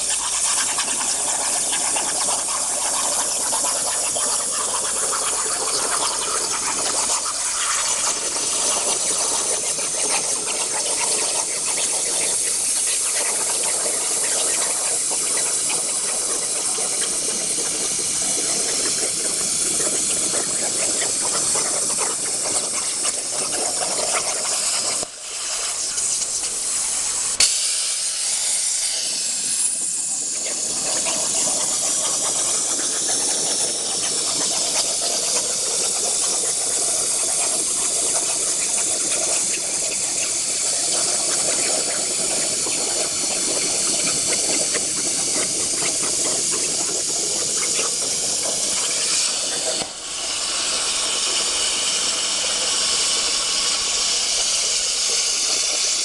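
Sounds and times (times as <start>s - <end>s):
plasma arc hissing: 0.0s - 56.0s.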